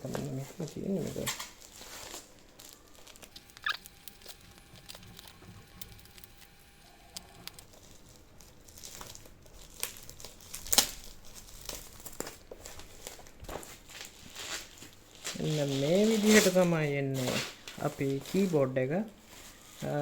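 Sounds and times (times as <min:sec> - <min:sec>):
packaging rustling and crinkling: 0:00.0 - 0:20.0.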